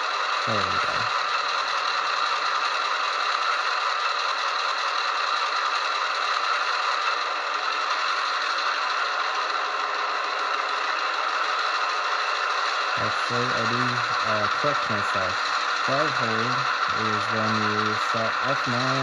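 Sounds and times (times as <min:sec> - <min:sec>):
model train diesel engine sound: 0:00.0 - 0:19.0.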